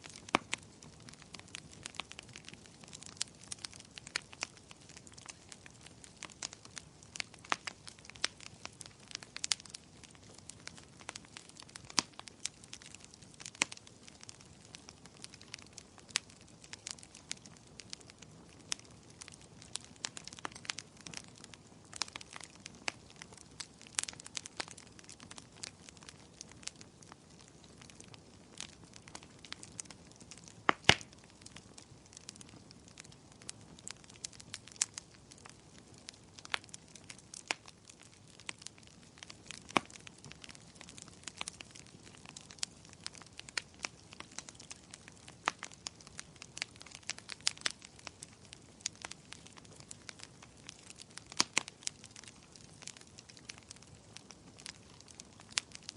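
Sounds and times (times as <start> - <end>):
faint steady hiss: 0.0 - 55.9
firewood crackling and popping: 0.0 - 55.9.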